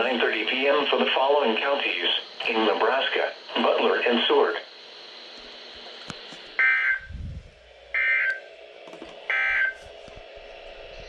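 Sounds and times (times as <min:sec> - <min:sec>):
radio hum and hiss: 0:00.0 - 0:11.0.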